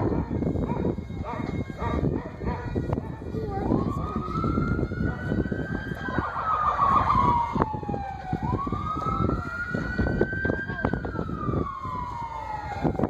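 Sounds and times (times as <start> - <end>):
emergency siren wailing: 0.0 - 13.0
low rumbling street noise: 0.0 - 13.0.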